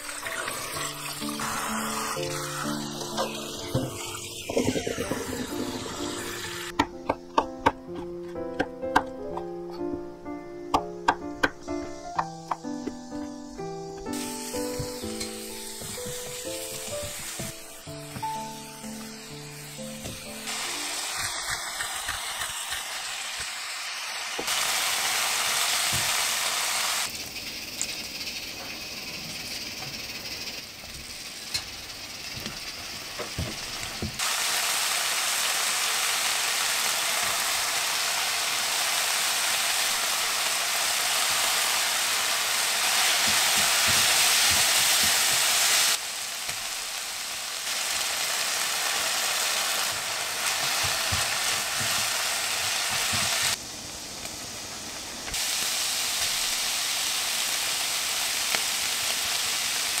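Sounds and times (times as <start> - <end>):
food sizzling in a frying pan: 0.0 - 6.8, 13.5 - 60.0.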